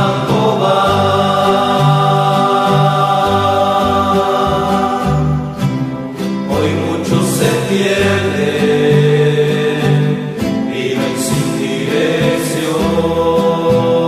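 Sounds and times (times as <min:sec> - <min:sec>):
acoustic guitars playing: 0:00.0 - 0:14.0
group of voices singing: 0:00.0 - 0:14.0.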